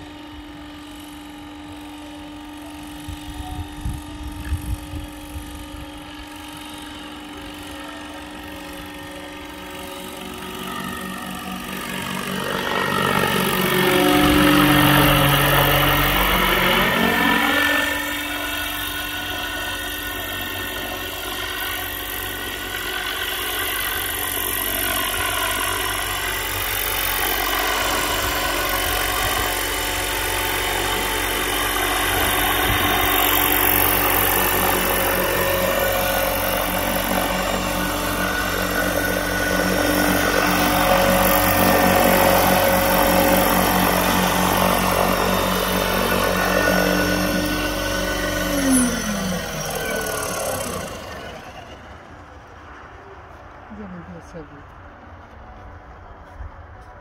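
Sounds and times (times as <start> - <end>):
model helicopter rotor whine: 0.0 - 57.0.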